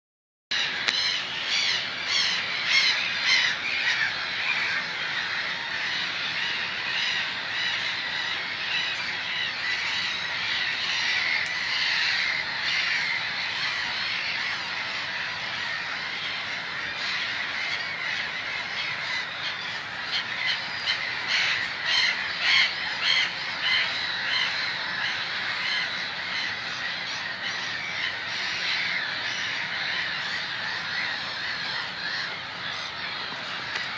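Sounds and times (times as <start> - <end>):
flock of birds squawking: 0.5 - 33.9.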